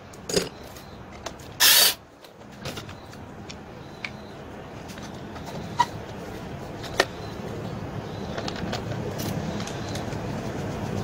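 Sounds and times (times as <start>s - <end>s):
steady rumbling noise: 0.0s - 11.0s.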